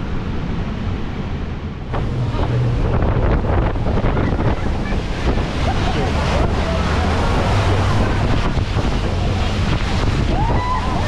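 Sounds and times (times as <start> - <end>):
motorboat running: 0.0 - 11.0
water rushing past: 0.0 - 11.0
wind buffeting microphone: 0.0 - 11.0.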